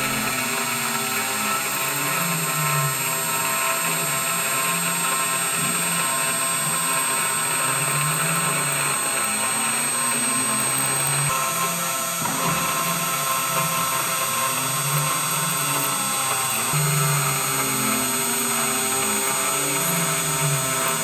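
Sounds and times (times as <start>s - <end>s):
router spindle cutting metal: 0.0s - 21.0s.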